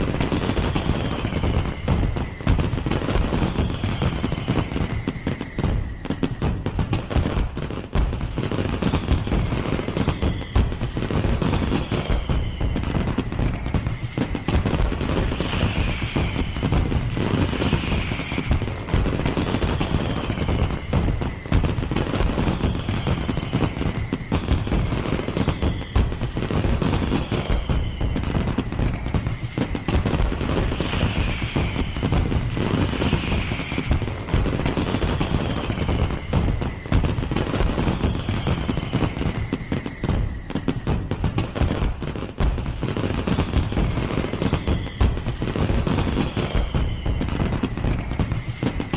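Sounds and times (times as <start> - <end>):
falling firework whistles: 0.0 - 48.9
fireworks crackles and bangs: 0.0 - 48.9.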